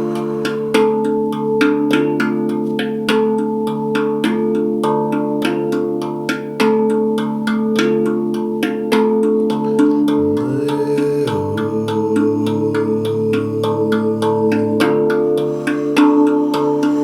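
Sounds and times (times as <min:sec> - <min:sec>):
handpan played: 0:00.0 - 0:17.0.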